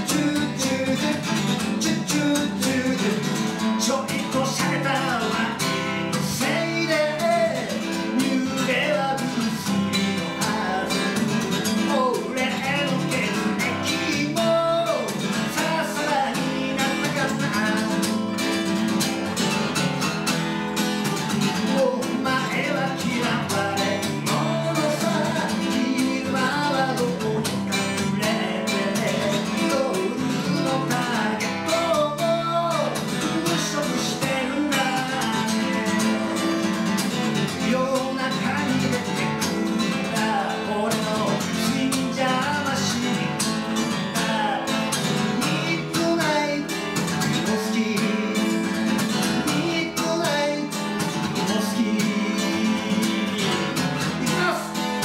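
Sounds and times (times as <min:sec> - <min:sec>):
man singing: 0:00.0 - 0:55.0
strummed acoustic guitar: 0:00.0 - 0:55.0.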